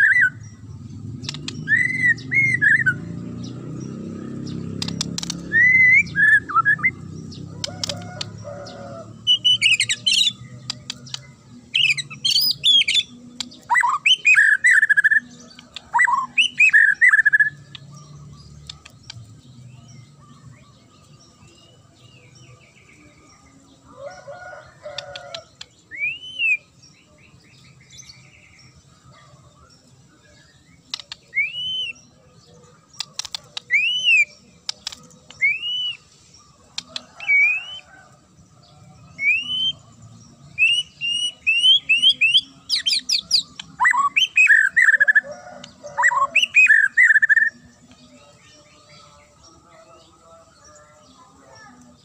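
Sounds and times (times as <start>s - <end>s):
bird singing whistled notes: 1.2s - 3.6s, 4.6s - 8.2s, 9.2s - 23.6s, 24.9s - 28.8s, 30.2s - 32.3s, 33.1s - 38.2s, 38.8s - 51.0s.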